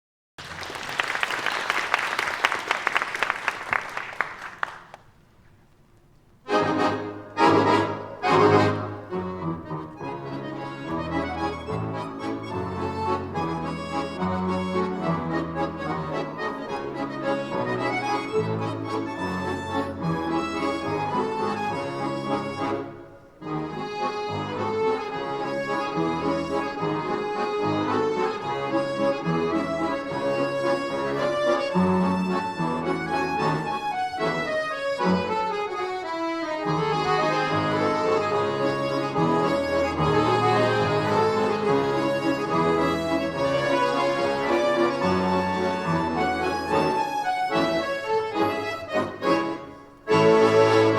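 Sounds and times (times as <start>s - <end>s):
accordion ensemble playing: 6.3s - 50.9s.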